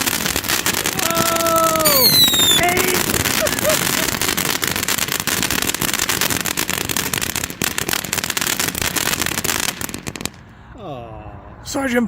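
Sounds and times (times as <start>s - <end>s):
firework fountain hissing and crackling: 0.0s - 10.6s.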